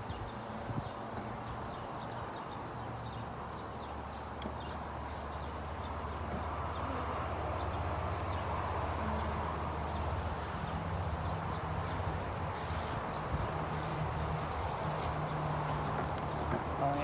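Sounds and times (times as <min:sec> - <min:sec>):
honeybees buzzing: 0:02.6 - 0:17.0.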